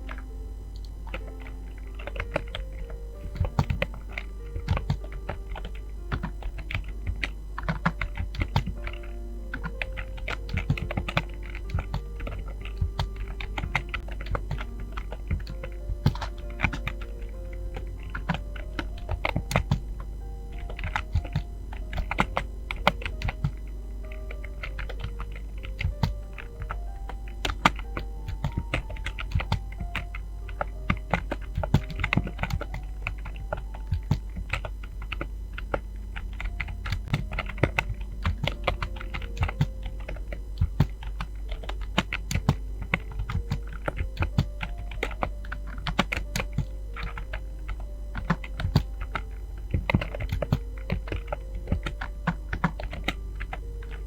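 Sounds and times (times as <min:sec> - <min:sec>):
simple melody of held notes: 0:00.0 - 0:54.0
steady low hum: 0:00.0 - 0:54.0
typing on a computer keyboard: 0:00.0 - 0:54.0.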